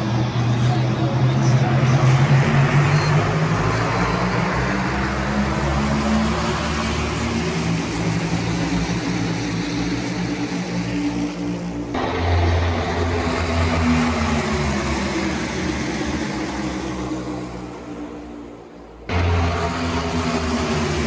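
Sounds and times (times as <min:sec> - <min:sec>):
racing car engines droning: 0:00.0 - 0:21.0.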